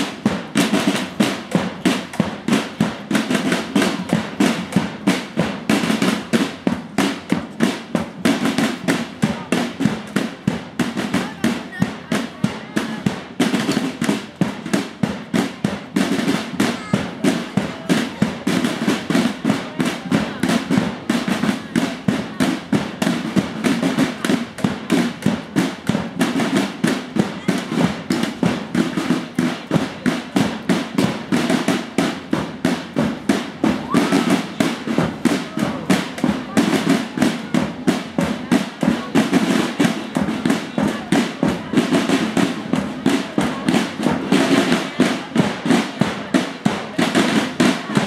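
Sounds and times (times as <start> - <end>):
marching drums: 0.0 - 48.0
voices: 0.0 - 48.0.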